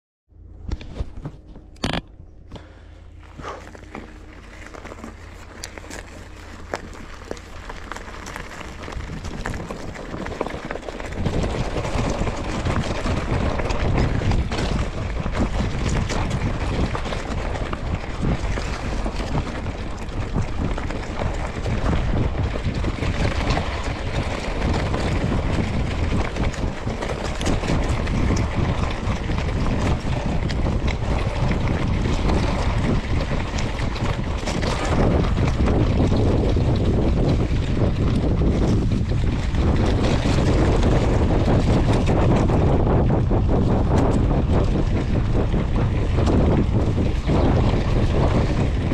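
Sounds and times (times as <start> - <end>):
wind buffeting microphone: 0.5 - 48.9
tyres crunching on gravel: 2.6 - 48.9
bike frame rattle: 3.2 - 48.9.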